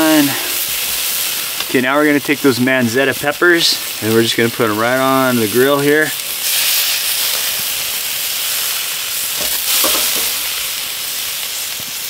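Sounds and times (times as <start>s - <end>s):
peppers sizzling on grill: 0.0s - 12.0s.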